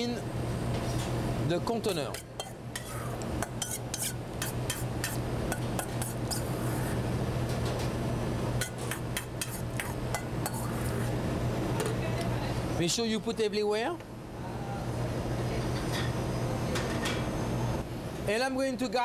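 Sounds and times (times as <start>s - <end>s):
steady low hum: 0.0s - 18.3s.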